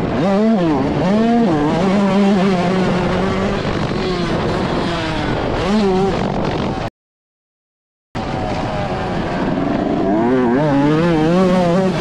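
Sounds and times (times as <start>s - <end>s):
two-stroke motorcycle engine revving: 0.0s - 6.9s, 8.3s - 12.0s.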